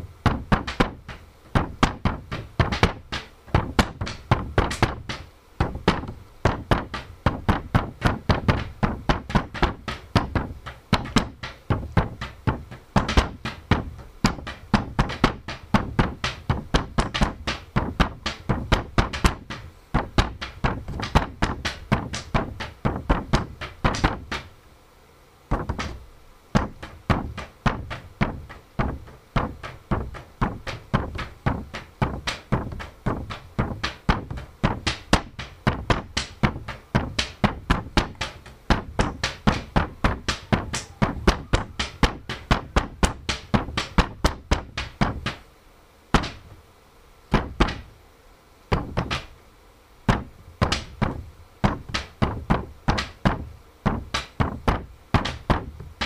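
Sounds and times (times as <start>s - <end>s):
tapping and thumping on paper: 0.2s - 24.5s, 25.5s - 26.0s, 26.6s - 45.4s, 46.2s - 46.4s, 47.3s - 47.9s, 48.7s - 49.3s, 50.1s - 56.0s.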